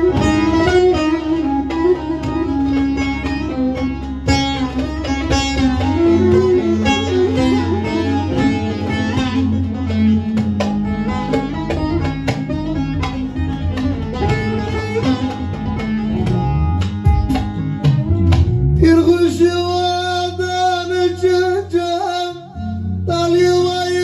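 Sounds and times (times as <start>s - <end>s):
plucked long-necked lute: 0.0s - 24.0s
steady low backing: 0.0s - 24.0s.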